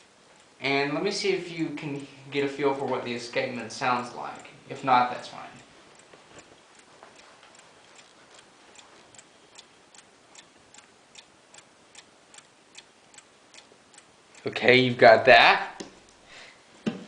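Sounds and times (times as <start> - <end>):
clock ticking faintly: 0.0 - 16.2.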